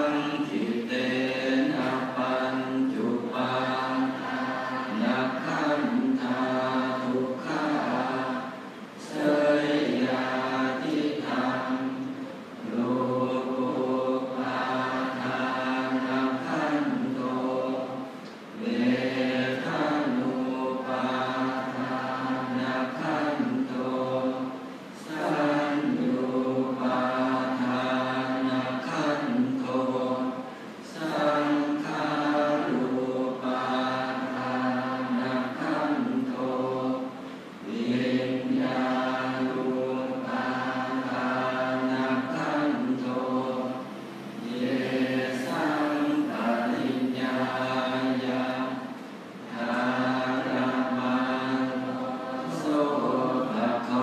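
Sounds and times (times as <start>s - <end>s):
monks chanting in unison: 0.0s - 54.0s.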